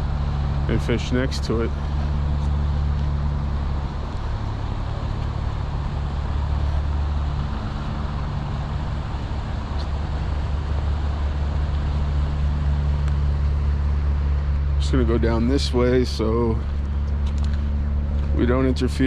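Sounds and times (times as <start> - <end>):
constant rushing noise: 0.0 - 19.0
machinery engine drone: 0.0 - 19.0.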